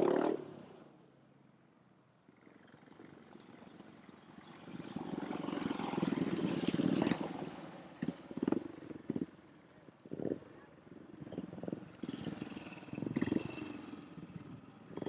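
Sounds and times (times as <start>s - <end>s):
motorcycles racing on dirt: 2.8s - 15.0s.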